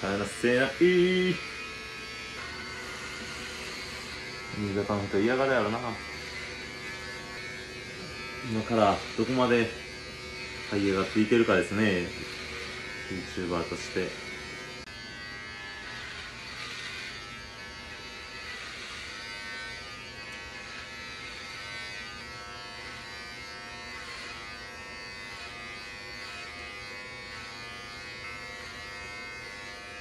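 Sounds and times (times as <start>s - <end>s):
electric hair clippers buzzing: 0.0s - 30.0s.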